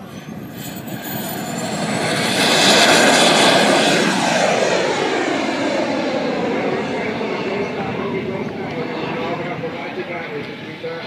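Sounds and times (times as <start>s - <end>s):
model jet turbine whine: 0.0s - 11.0s.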